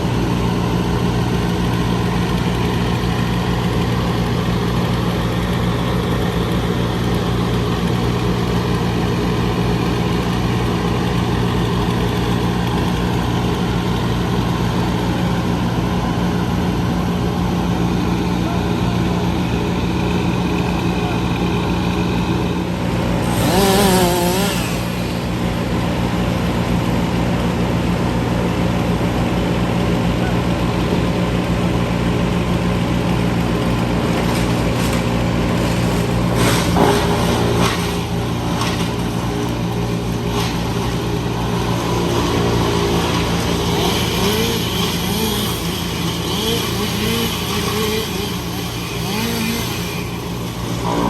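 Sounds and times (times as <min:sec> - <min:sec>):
large engine running: 0:00.0 - 0:51.0.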